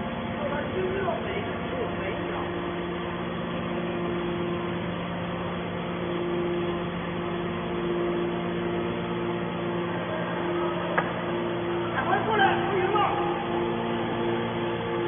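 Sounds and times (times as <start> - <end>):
baler machine hum: 0.0 - 15.0
high machine tone: 2.5 - 15.0.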